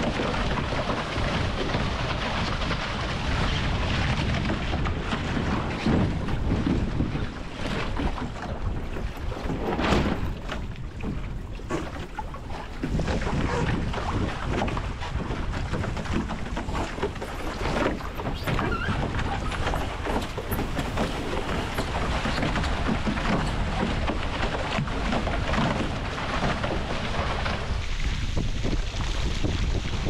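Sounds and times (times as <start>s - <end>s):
water rushing along hulls: 0.0s - 30.0s
wind buffeting microphone: 0.0s - 30.0s.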